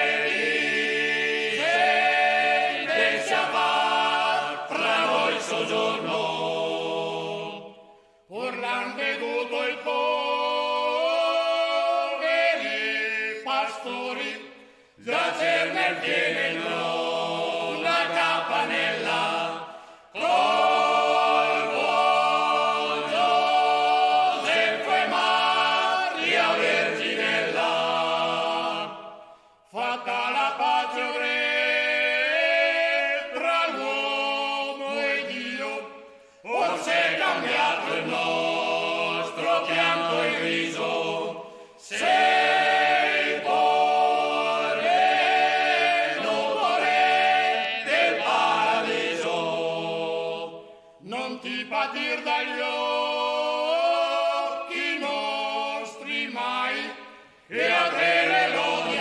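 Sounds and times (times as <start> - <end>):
male choir singing: 0.0 - 59.0.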